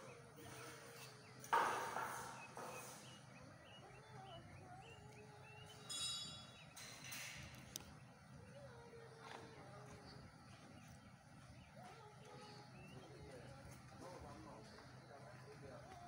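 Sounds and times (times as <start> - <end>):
faint bird chirps: 0.0 - 15.8.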